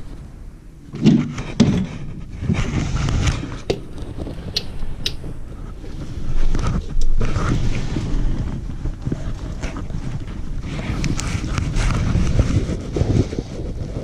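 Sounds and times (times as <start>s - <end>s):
low rumble: 0.0s - 14.0s
microphone handling noise: 0.0s - 14.0s
rustling: 0.0s - 14.0s.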